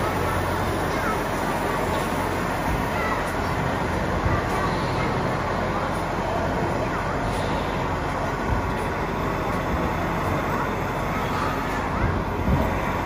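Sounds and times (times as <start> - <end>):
crowded hall din: 0.0 - 13.0
model excavator running: 0.0 - 13.0.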